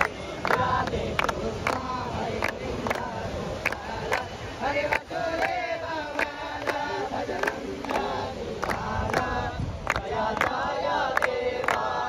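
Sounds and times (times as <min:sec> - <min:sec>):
group singing devotional song: 0:00.0 - 0:12.0.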